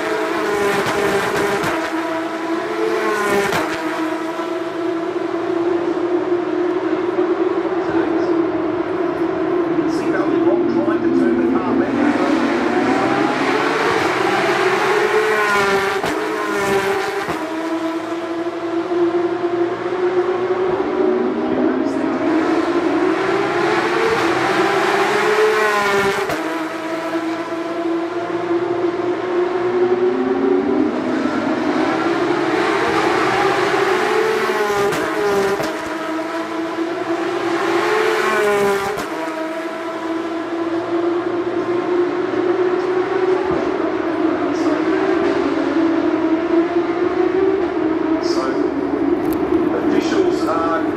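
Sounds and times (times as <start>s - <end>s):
race car engines droning: 0.0s - 50.9s.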